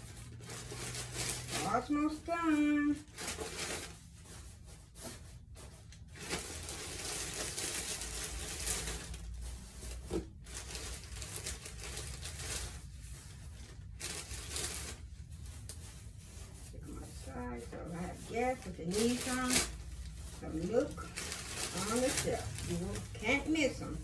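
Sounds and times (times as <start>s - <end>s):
plastic wrapper crinkling: 0.0s - 4.8s, 5.6s - 24.0s.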